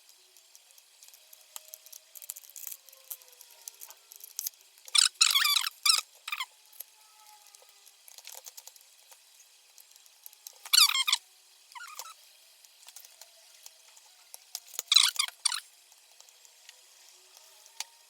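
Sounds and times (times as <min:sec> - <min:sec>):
soldering flux sizzling: 0:00.0 - 0:18.0.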